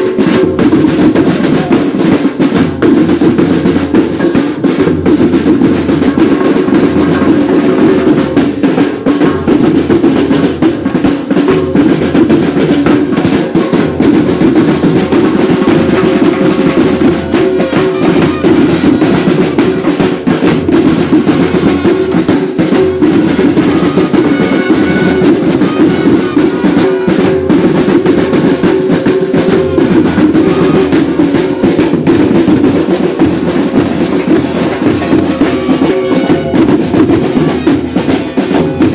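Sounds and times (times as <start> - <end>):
deep marching drums: 0.0 - 38.9
snare drums: 0.0 - 38.9.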